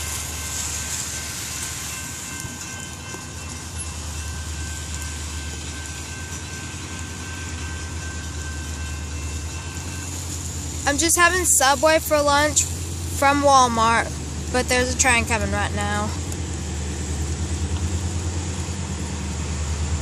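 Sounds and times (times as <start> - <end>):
level crossing warning tones: 0.0 - 16.2
rain hissing: 0.0 - 20.0
train rumbling: 0.0 - 20.0.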